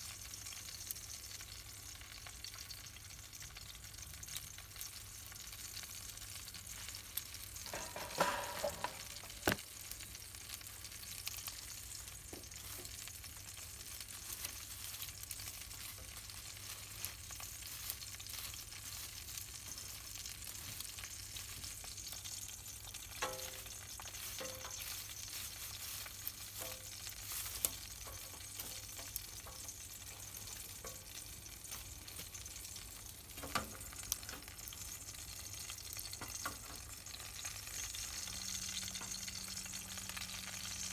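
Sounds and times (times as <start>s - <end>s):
campfire crackling and sizzling: 0.0s - 40.9s.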